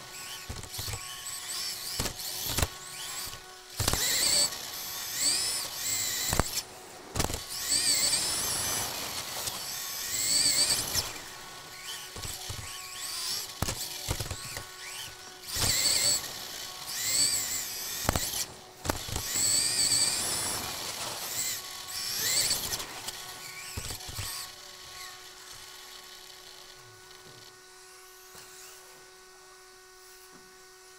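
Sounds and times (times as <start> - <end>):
electric motor whining: 0.0 - 30.9.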